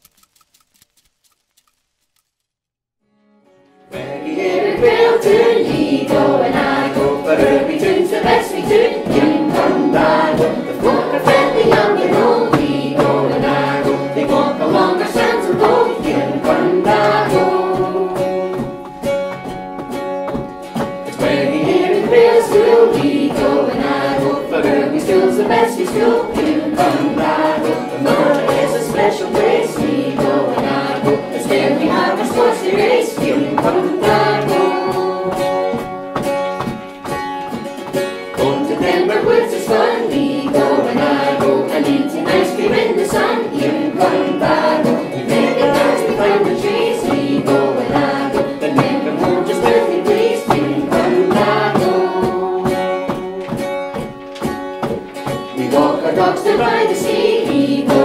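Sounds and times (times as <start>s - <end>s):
voices singing over instruments: 3.9s - 19.1s, 20.8s - 36.7s, 38.0s - 58.0s.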